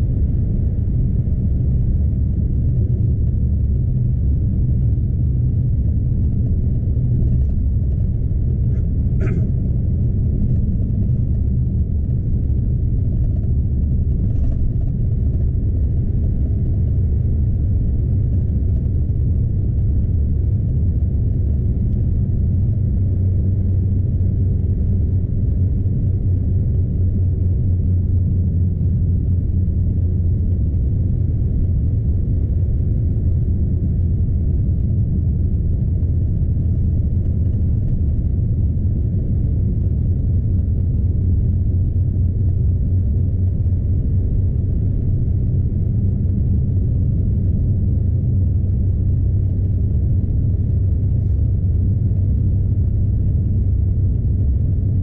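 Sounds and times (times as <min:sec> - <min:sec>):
truck engine rumble inside cab: 0:00.0 - 0:55.0.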